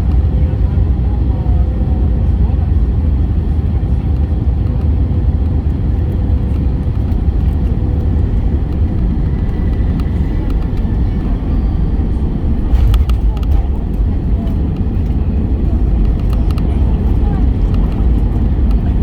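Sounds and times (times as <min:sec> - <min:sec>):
engine and airflow rumble: 0:00.0 - 0:19.0.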